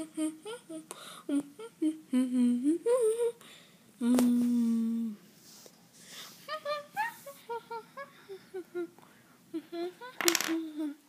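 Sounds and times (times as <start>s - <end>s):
high voice humming: 0.0s - 3.4s, 4.0s - 5.2s, 6.5s - 11.0s.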